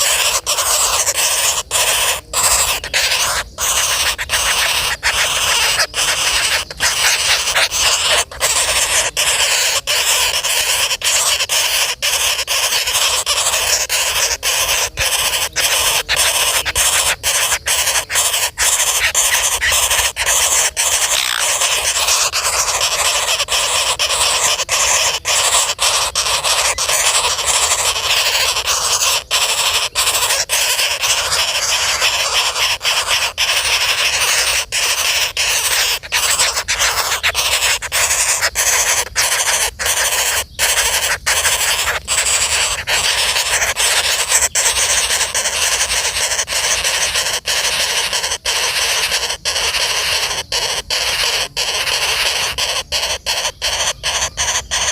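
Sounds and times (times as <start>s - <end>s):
woodpecker harsh calls: 0.0s - 54.9s.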